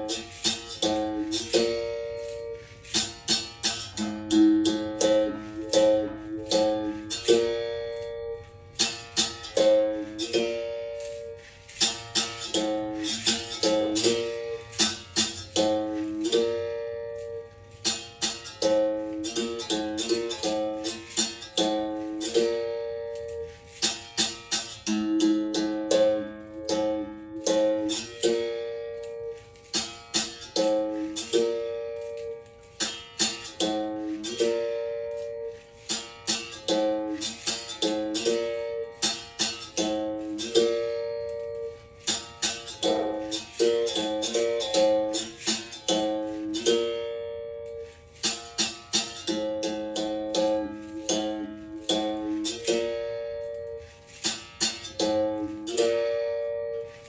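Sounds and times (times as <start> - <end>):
berimbau playing: 0.0 - 57.0.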